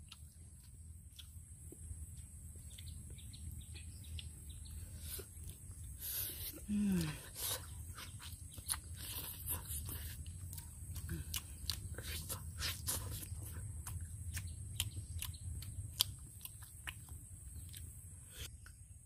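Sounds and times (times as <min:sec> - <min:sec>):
chewing clicks and smacks: 0:00.0 - 0:06.5, 0:07.4 - 0:18.8.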